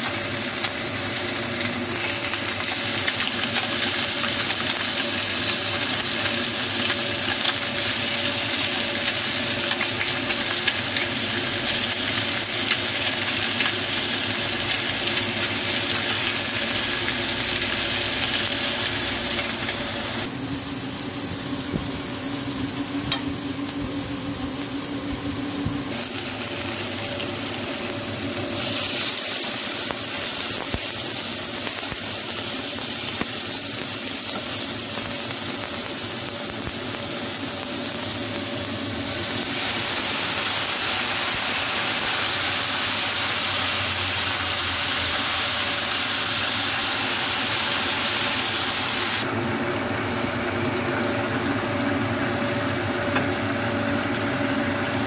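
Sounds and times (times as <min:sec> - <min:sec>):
oil sizzling in a pan: 0:00.0 - 0:55.0.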